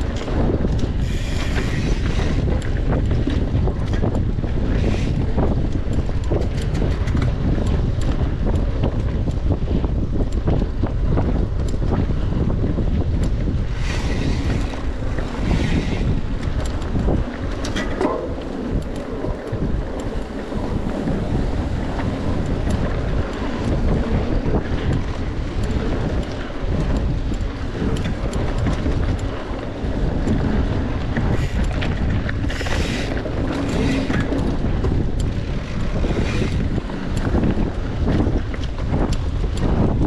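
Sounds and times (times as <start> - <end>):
bike clicks and rattles: 0.0 - 40.0
tyre and trail noise: 0.0 - 40.0
wind buffeting microphone: 0.0 - 40.0.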